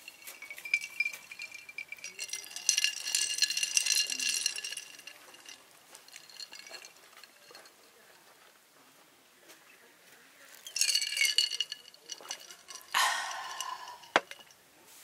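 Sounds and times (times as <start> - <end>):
ice cubes clinking in a glass: 0.0 - 8.2, 10.5 - 14.5.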